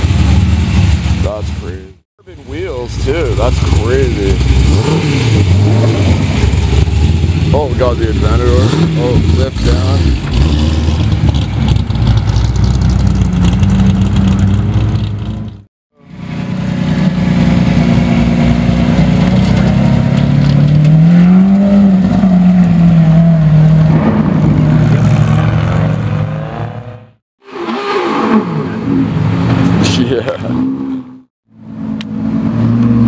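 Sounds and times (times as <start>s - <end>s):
sports car driving away: 2.4s - 15.5s, 16.1s - 33.0s.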